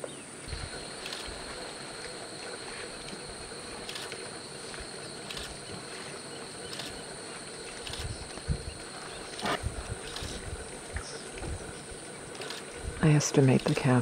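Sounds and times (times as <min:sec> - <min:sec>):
outdoor hiss: 0:00.0 - 0:14.0
high-pitched insect chorus: 0:00.1 - 0:14.0.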